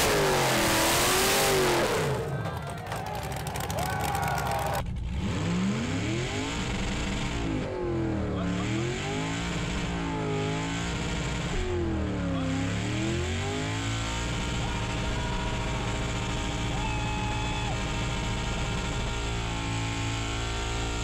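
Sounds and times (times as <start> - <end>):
engine revving in burnout: 0.0 - 2.4, 4.3 - 21.0.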